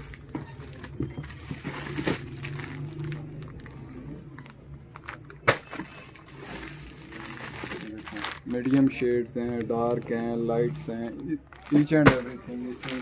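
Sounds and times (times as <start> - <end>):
plastic wrapping rustling: 0.0 - 13.0.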